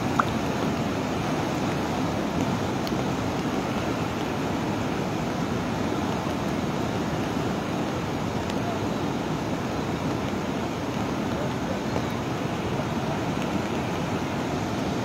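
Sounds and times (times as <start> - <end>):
river rushing in flood: 0.0 - 15.0.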